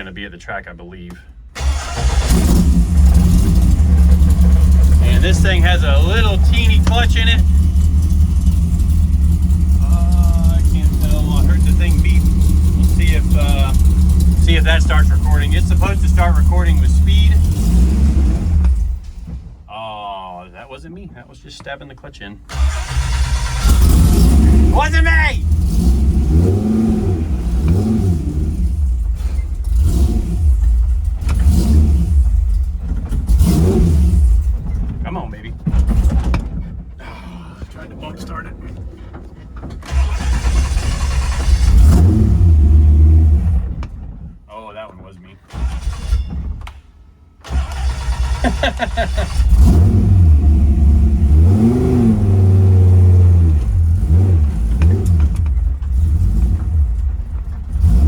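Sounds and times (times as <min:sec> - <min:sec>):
race car engine rough idle: 0:01.2 - 0:19.6, 0:22.4 - 0:44.5, 0:45.5 - 0:58.0.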